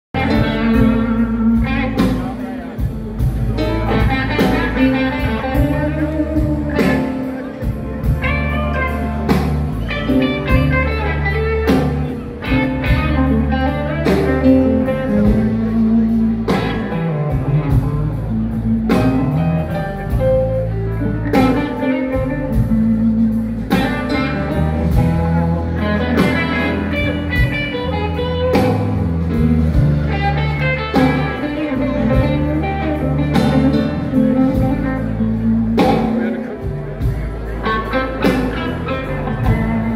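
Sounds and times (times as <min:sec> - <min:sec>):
live blues band playing: 0:00.1 - 0:39.9.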